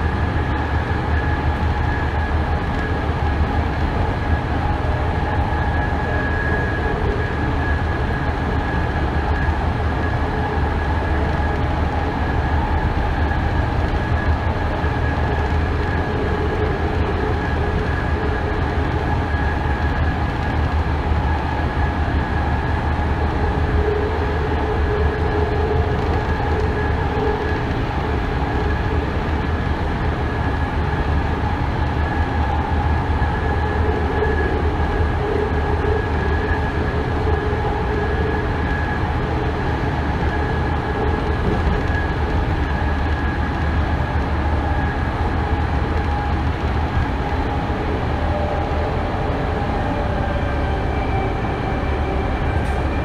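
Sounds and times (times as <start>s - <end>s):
high whine: 0.0s - 53.0s
train low rumble: 0.0s - 53.0s.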